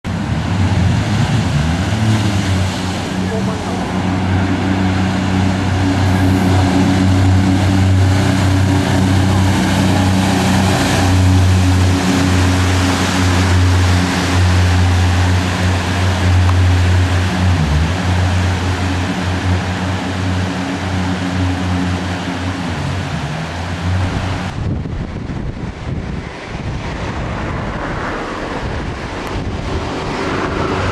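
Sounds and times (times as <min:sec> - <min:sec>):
boat engine drone: 0:00.0 - 0:30.9
wind: 0:00.0 - 0:30.9
rushing water spray: 0:00.1 - 0:30.9.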